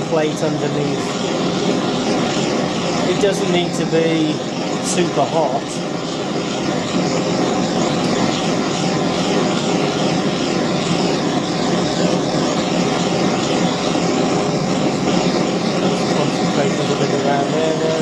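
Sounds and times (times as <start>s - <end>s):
blow lamp flame burning: 0.0s - 18.0s.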